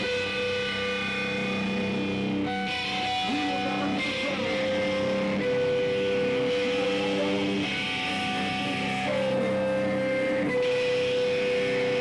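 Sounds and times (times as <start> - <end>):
rock band on electric guitars: 0.0 - 12.0.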